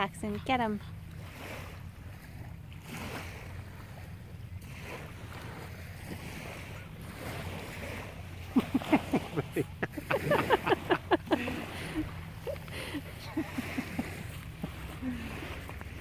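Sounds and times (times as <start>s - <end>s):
gentle surf washing: 0.0s - 16.0s.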